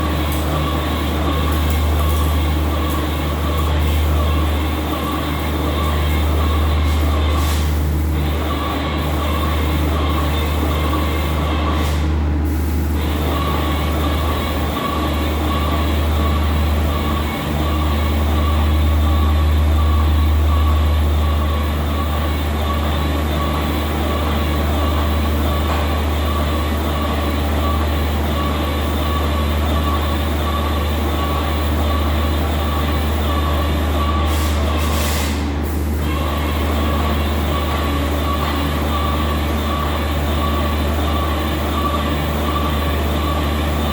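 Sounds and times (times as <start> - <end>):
machinery deep hum: 0.0 - 43.9
machinery high whine: 0.0 - 43.9.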